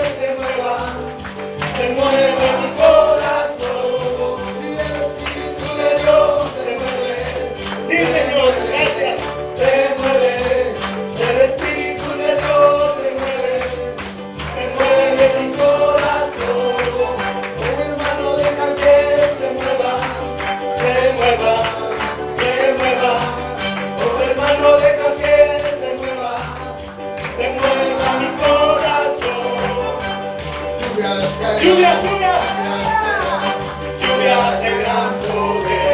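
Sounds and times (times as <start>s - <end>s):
band accompaniment: 0.0s - 35.9s
group singing: 0.0s - 35.9s.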